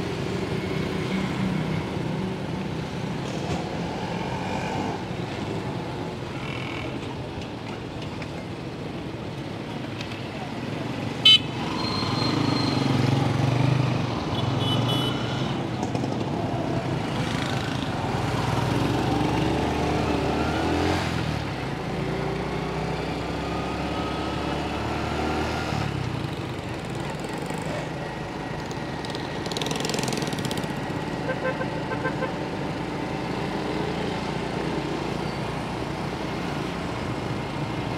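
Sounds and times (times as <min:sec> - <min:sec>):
city traffic noise: 0:00.0 - 0:37.9.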